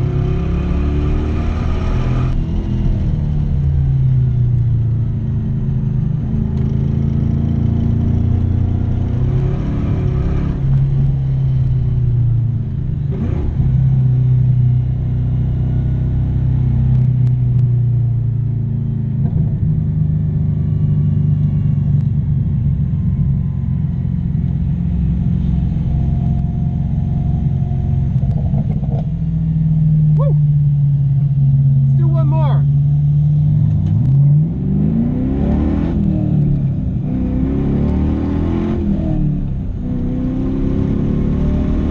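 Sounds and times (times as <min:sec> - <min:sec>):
car engine revving under load: 0:00.0 - 0:18.3, 0:19.0 - 0:41.9.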